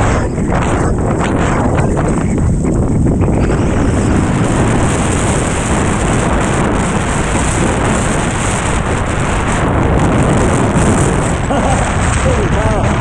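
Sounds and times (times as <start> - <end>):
rushing water and spray: 0.0 - 13.0
wind buffeting microphone: 0.0 - 13.0.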